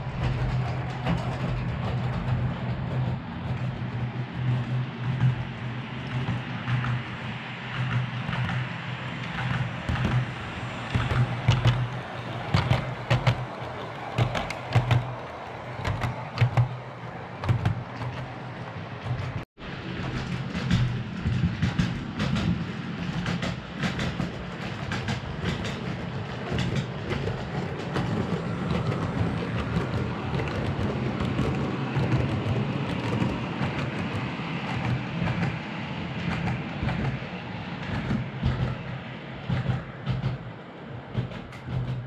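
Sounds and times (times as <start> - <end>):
wheels clicking over rails: 0.0 - 42.0.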